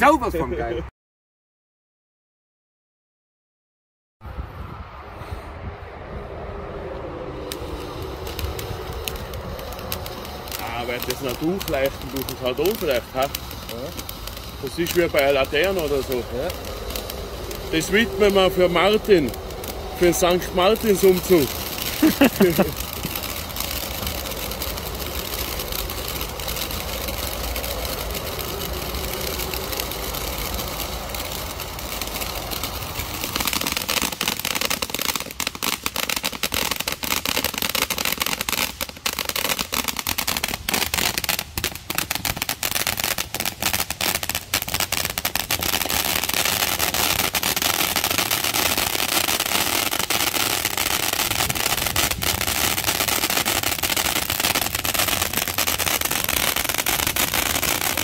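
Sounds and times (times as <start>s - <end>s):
firework hissing: 4.3s - 58.0s
dense rapid crackling: 7.0s - 58.0s.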